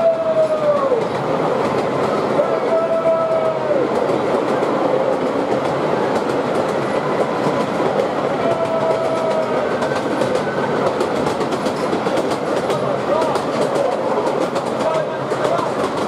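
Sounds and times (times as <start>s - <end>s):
rail clicks: 0.0s - 16.0s
train wheels rumbling on track: 0.0s - 16.0s.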